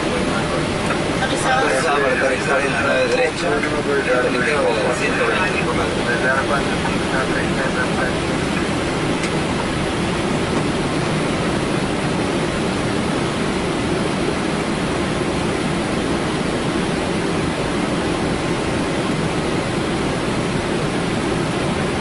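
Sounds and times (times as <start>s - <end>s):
aircraft engine noise: 0.0s - 22.0s
airflow over cockpit: 0.0s - 22.0s.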